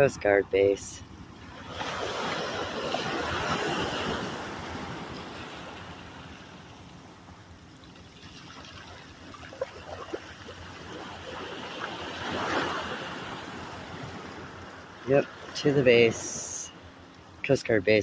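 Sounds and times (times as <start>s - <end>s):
ocean waves on a beach: 0.0s - 18.0s.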